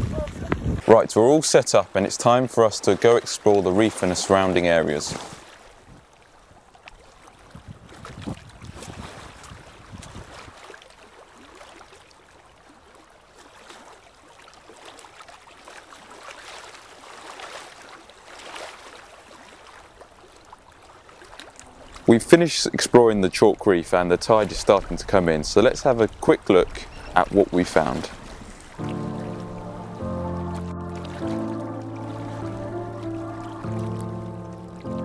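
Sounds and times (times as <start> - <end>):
sea washing: 0.0 - 35.0
wind: 0.0 - 35.0.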